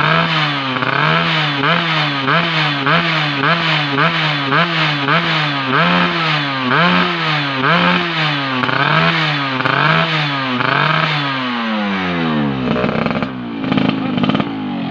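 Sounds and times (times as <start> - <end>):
two-stroke engine revving: 0.0 - 14.9.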